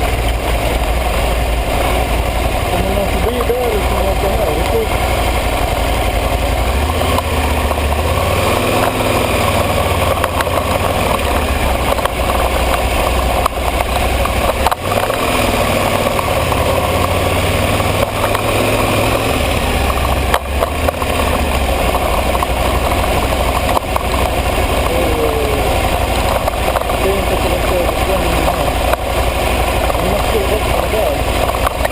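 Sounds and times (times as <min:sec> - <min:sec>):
motorcycle engine running: 0:00.0 - 0:31.9
wind and road noise: 0:00.0 - 0:31.9.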